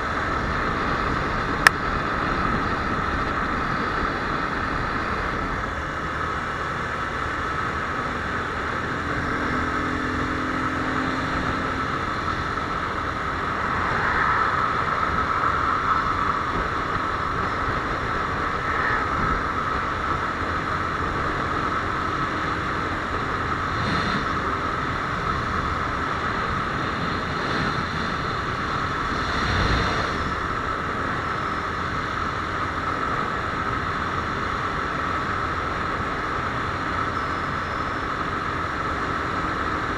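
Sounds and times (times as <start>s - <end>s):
wind noise on microphone: 0.0s - 6.6s, 7.3s - 39.9s
motorcycle engine drone: 0.0s - 39.9s.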